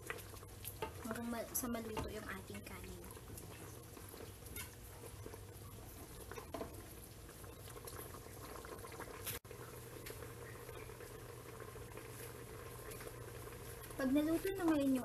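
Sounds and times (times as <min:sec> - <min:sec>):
porridge bubbling in a pot: 0:00.0 - 0:15.0.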